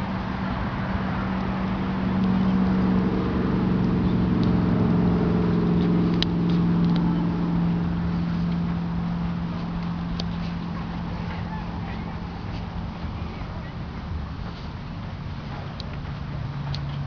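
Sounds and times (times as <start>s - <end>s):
engine humming: 0.0s - 17.0s
wind rumbling on microphone: 0.0s - 17.0s.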